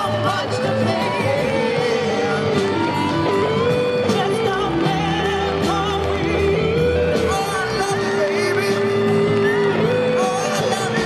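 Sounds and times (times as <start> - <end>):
live rock band: 0.0 - 11.0
person singing: 0.0 - 11.0.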